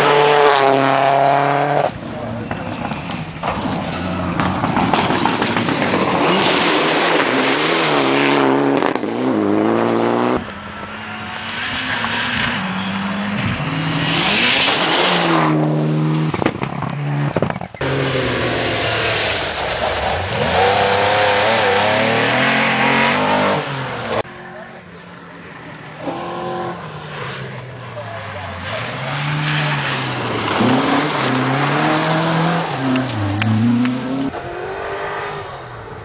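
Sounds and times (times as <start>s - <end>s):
rally car engines revving hard: 0.0s - 24.6s, 25.9s - 36.0s.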